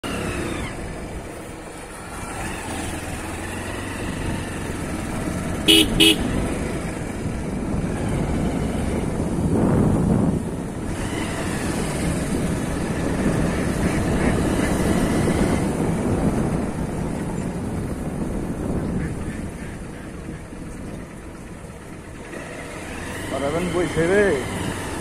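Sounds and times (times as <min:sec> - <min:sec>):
wind rushing over microphone: 0:00.0 - 0:21.6
motorcycle engine running: 0:00.0 - 0:25.0.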